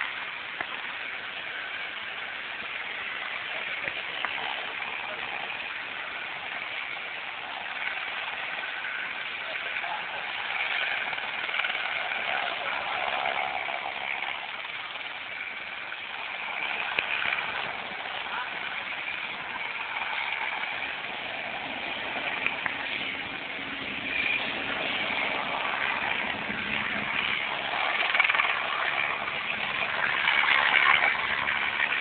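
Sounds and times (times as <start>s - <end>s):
steady engine noise: 0.0s - 32.0s.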